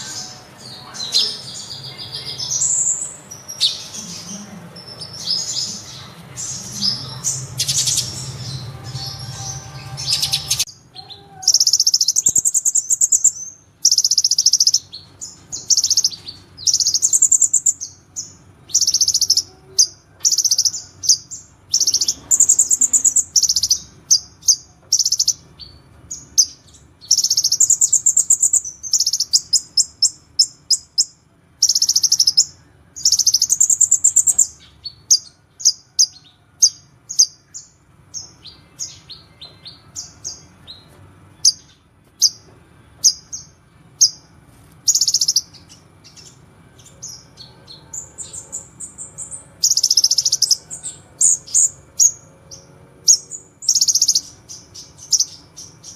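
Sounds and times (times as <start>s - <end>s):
sunbird singing high-pitched song: 0.0s - 55.9s.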